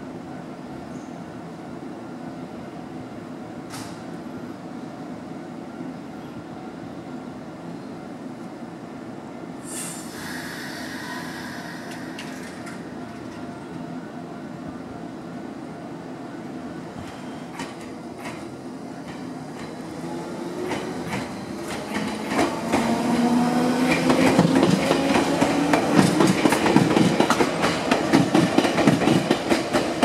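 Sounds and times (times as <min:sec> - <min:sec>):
electric train rumbling: 0:02.8 - 0:30.0.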